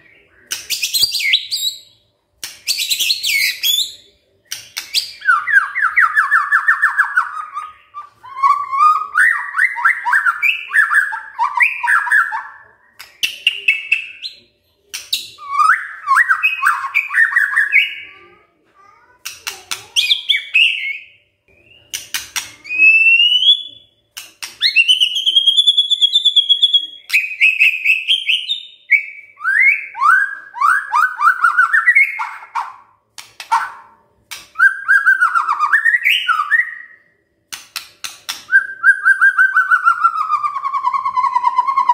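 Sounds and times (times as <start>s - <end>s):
bird singing varied phrases: 0.0s - 18.5s, 19.2s - 32.9s, 34.6s - 37.2s, 38.5s - 41.9s.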